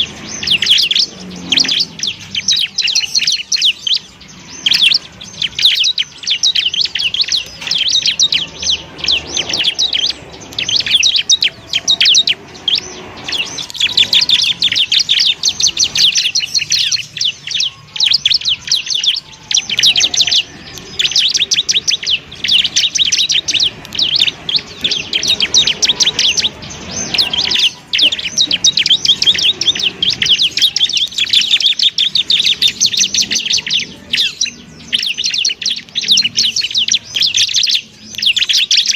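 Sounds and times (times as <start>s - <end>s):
bird singing high chirping notes: 0.0s - 38.9s.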